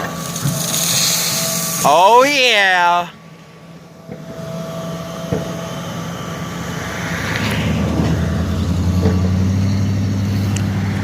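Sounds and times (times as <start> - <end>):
large engine droning: 0.0 - 11.0.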